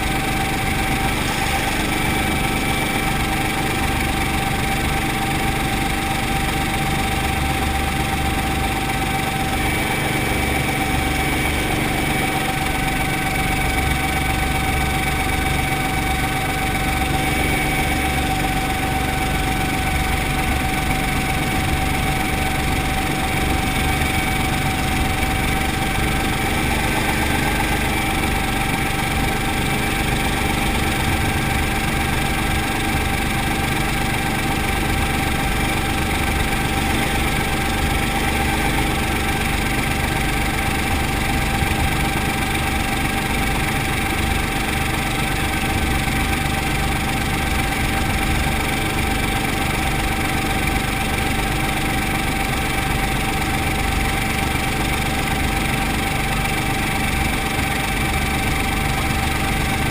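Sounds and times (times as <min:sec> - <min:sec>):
high whine: 0:00.0 - 0:51.8
helicopter engine rumble: 0:00.0 - 0:59.9.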